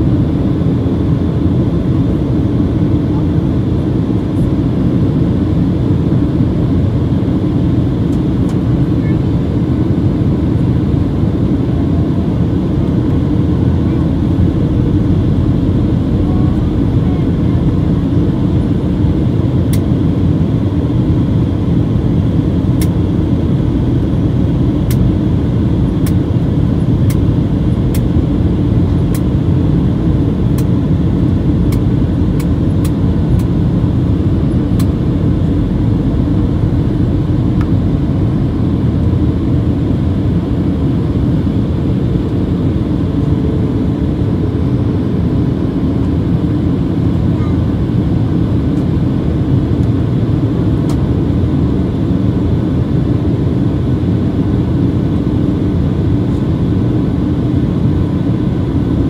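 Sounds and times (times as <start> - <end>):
airplane cabin engine rush: 0.0 - 59.0.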